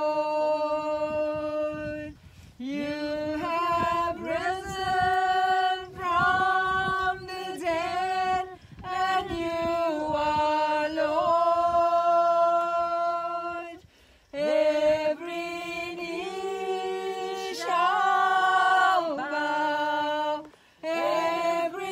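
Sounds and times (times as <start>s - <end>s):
group singing a hymn: 0.0s - 21.9s.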